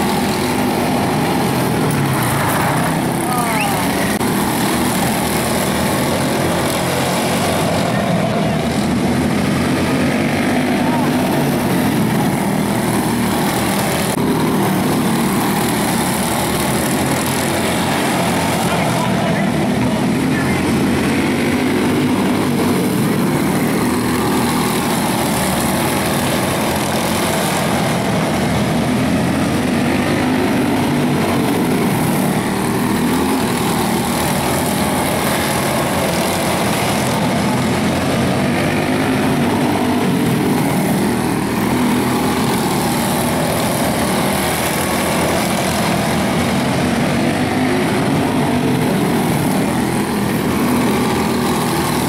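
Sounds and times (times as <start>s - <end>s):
small race car engines buzzing: 0.0s - 52.0s.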